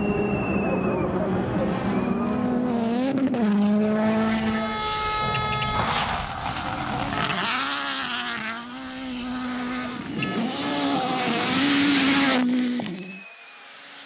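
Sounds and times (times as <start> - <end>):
rally car engine revving: 0.0 - 14.0
tyre and road noise: 0.1 - 13.2.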